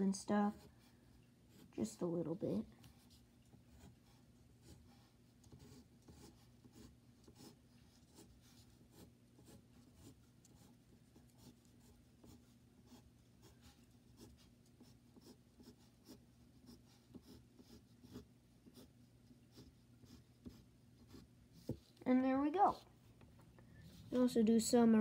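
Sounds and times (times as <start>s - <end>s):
pencil scratching on paper: 0.1s - 22.0s, 23.9s - 25.0s.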